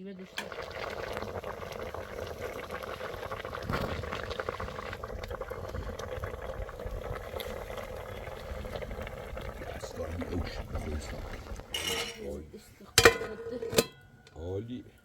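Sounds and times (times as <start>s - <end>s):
pot of liquid boiling: 0.0s - 15.0s.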